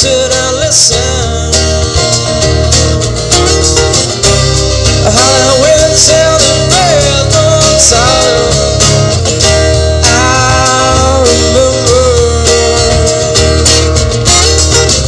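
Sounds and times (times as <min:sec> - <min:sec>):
rock band playing: 0:00.0 - 0:15.0
strummed acoustic guitar: 0:00.0 - 0:15.0.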